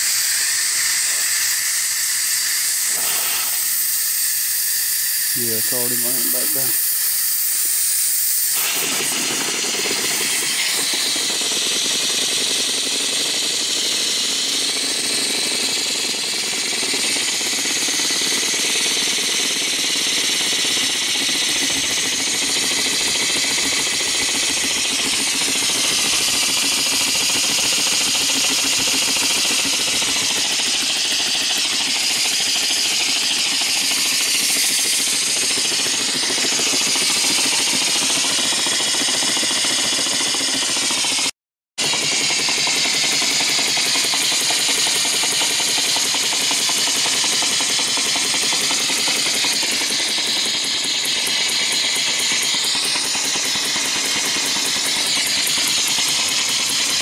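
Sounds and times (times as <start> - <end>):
steam engine clatter: 0.0 - 57.0
steam hissing: 0.0 - 57.0.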